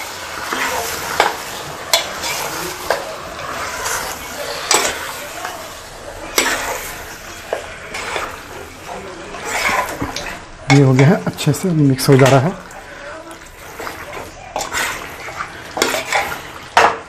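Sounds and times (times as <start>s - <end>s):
meat sizzling: 0.0s - 17.0s
metal spoon scraping pot: 0.0s - 17.0s.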